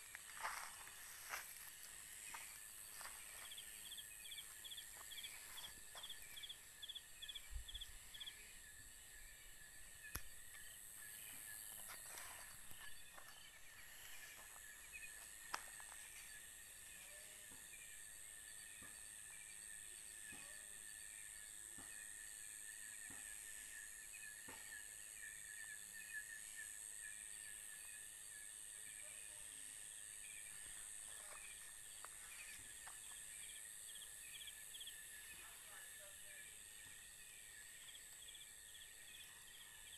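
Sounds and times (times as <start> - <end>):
crickets trilling: 0.0 - 20.0, 25.2 - 39.9
insect chirping in a pulse: 0.0 - 39.9.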